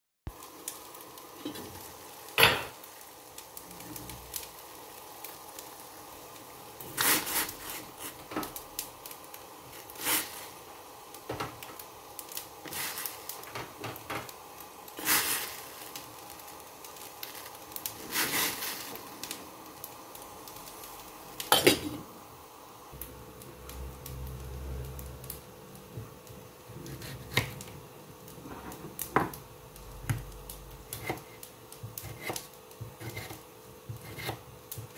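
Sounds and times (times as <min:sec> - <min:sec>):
faint steady hiss: 0:00.3 - 0:34.9.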